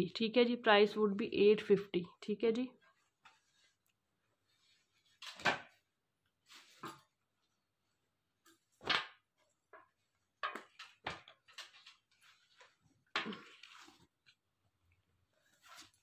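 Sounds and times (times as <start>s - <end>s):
clothes rustling: 2.6s - 16.0s.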